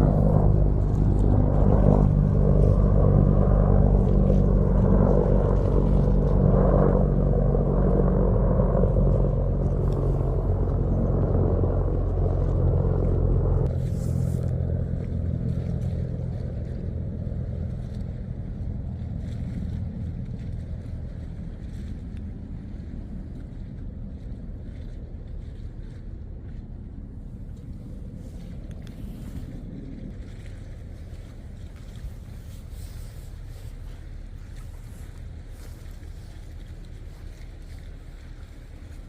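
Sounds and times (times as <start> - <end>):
ship engine humming: 0.0 - 24.2, 25.9 - 39.0.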